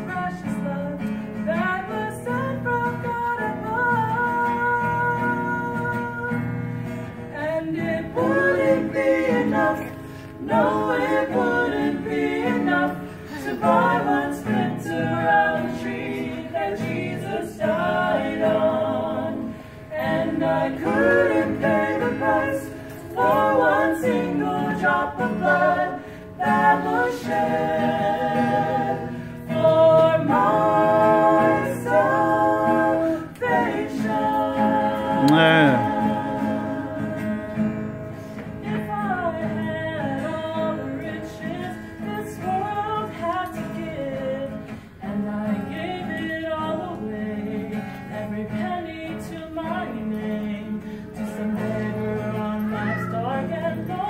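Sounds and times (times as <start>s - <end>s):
strummed acoustic guitar: 0.0s - 54.0s
vocal trio singing a hymn: 0.0s - 54.0s.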